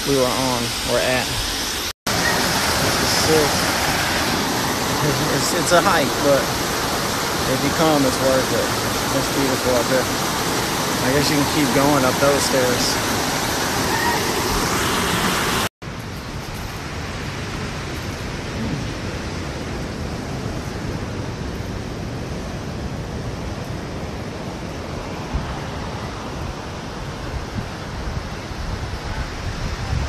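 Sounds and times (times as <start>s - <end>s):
ocean surf washing: 0.0s - 30.0s
stream water rushing: 0.0s - 30.0s.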